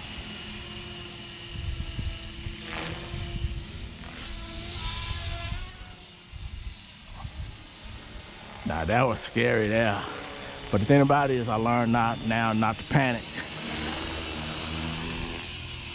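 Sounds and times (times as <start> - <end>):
rc helicopter motor whine: 0.0 - 15.9
rotors whirring: 0.0 - 15.9.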